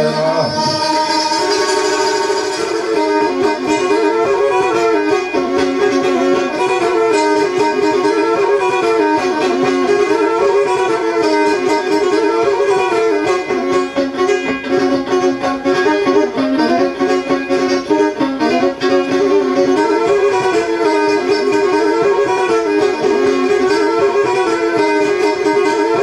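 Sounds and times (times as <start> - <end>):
bowed fiddle playing fast melody: 0.0 - 26.0.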